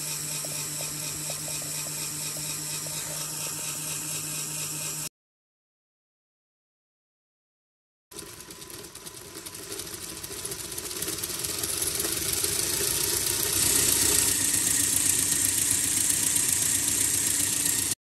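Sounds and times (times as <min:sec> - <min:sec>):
model engine mechanical noise: 0:00.0 - 0:05.1, 0:08.1 - 0:18.0.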